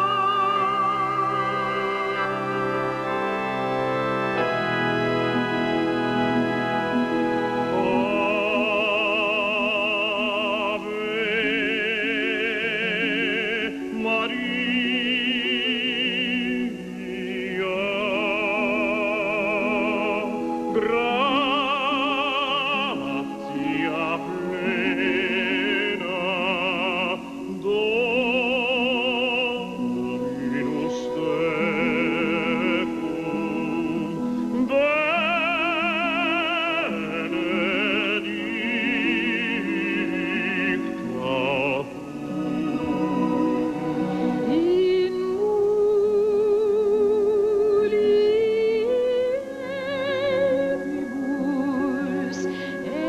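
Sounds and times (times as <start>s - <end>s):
operatic singing voice: 0.0s - 53.0s
sustained instrumental accompaniment: 0.0s - 53.0s.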